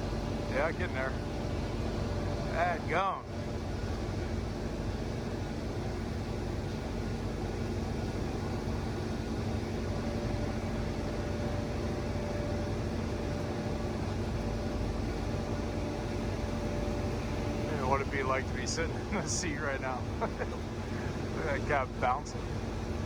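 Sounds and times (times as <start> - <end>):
thin steady whine: 0.0 - 23.0.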